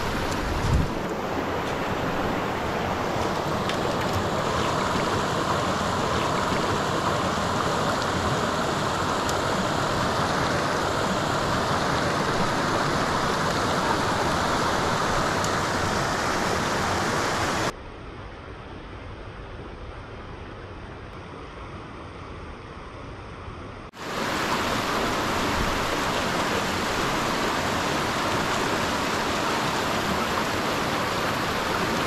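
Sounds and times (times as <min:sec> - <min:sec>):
creek water running: 0:00.0 - 0:17.7, 0:23.9 - 0:32.0.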